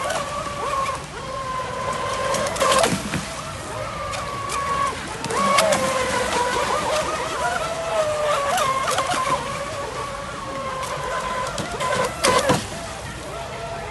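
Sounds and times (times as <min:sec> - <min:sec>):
rc boat motor whining: 0:00.0 - 0:13.9.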